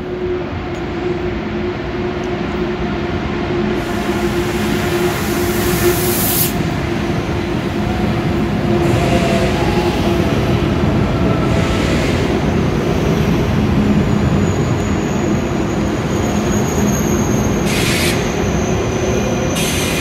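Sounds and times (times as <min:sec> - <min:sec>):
train rumbling with humming tone: 0:00.0 - 0:20.0.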